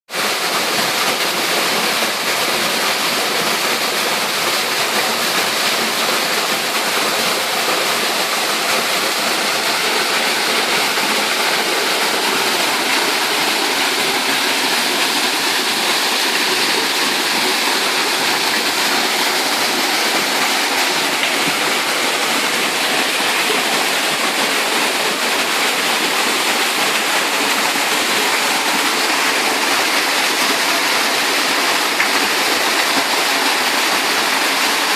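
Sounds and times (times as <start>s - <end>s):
waterfall rushing and splashing: 0.1s - 34.9s.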